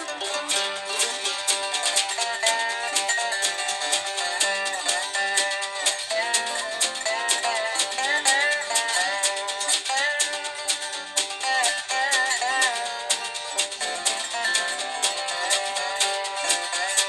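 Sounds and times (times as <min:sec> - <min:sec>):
upbeat plucked string music: 0:00.0 - 0:17.0.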